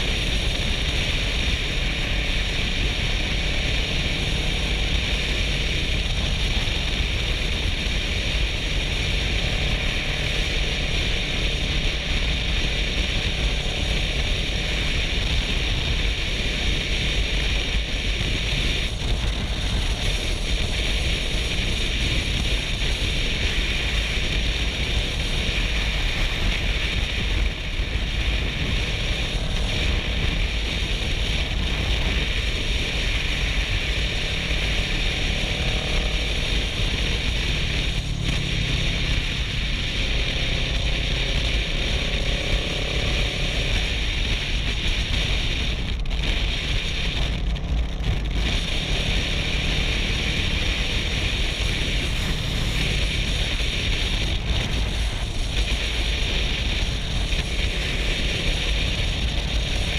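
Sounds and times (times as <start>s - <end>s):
motorcycle engine running: 0.0s - 59.9s
wind rush over microphone: 0.0s - 59.9s.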